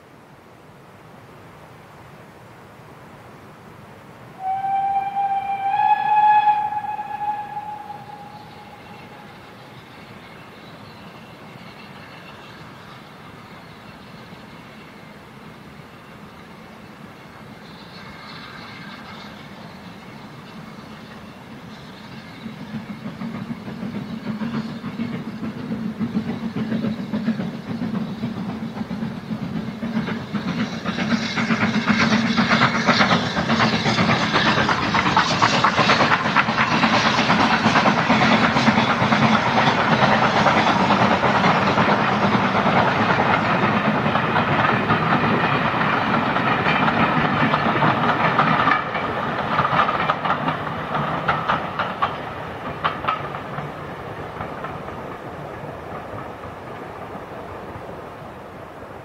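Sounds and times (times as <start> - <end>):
steam locomotive passing: 3.2 - 59.0
coaches rolling on rails: 4.4 - 59.0.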